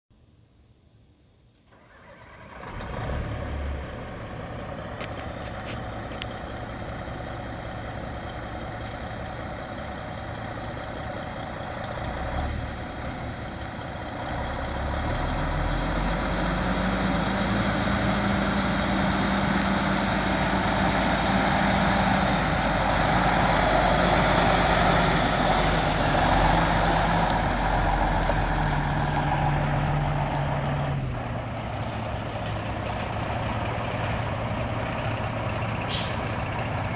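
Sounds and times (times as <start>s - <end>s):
truck diesel engine: 1.6s - 36.9s.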